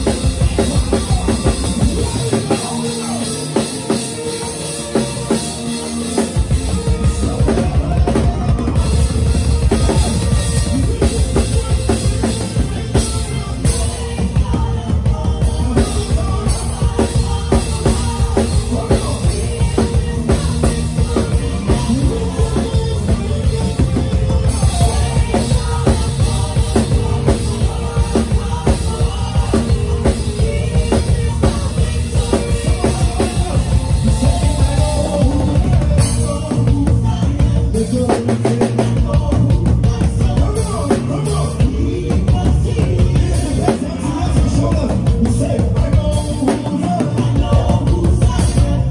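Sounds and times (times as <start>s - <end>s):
drum kit beat: 0.0s - 48.9s
heavy bass: 0.0s - 48.9s.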